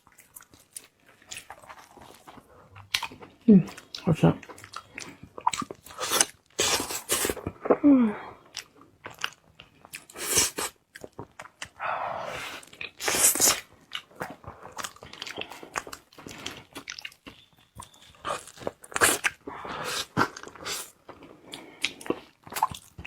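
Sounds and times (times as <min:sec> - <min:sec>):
close chewing with wet bites: 0:00.0 - 0:23.0.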